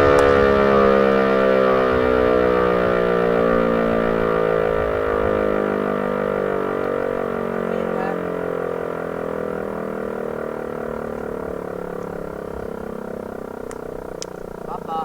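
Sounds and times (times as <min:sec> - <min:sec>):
motor siren winding down: 0:00.0 - 0:15.0.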